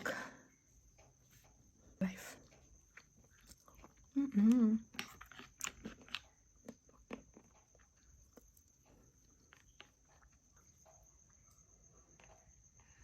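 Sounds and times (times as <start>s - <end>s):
faint eating clicks and taps: 0.8s - 13.0s.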